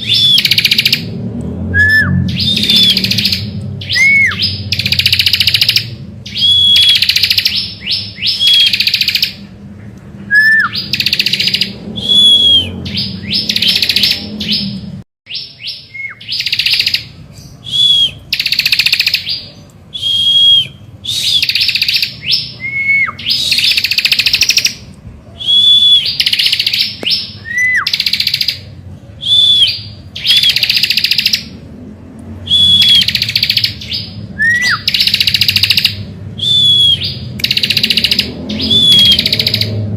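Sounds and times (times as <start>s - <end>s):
bird whistle and buzzy rattle song: 0.0s - 1.1s, 2.0s - 9.6s, 10.3s - 31.6s, 32.4s - 39.9s.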